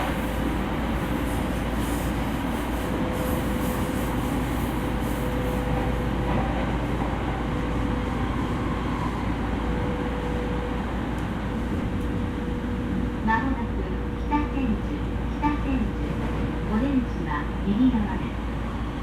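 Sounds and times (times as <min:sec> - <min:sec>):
steady train hum: 0:00.0 - 0:19.0
train wheels rumbling on rails: 0:00.0 - 0:19.0.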